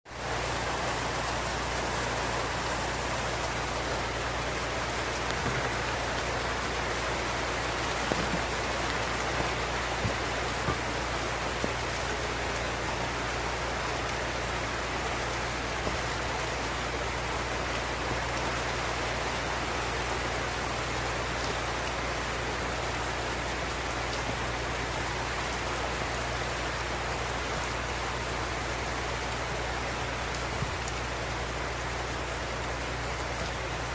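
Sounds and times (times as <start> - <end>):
close raindrops striking: 0.1 - 33.9
steady rain hiss: 0.1 - 33.9.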